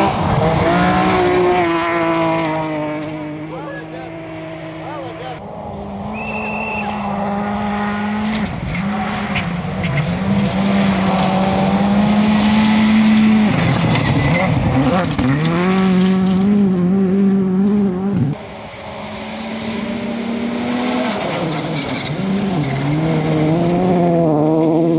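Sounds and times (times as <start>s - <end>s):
rally car engine at high revs: 0.0s - 24.9s.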